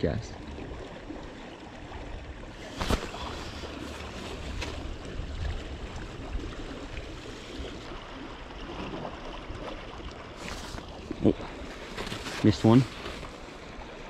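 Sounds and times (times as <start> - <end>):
water: 0.0 - 14.0
wind: 0.0 - 14.0.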